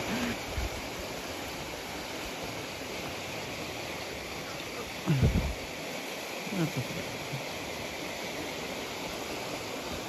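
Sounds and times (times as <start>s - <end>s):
outdoor night ambience: 0.0s - 10.0s.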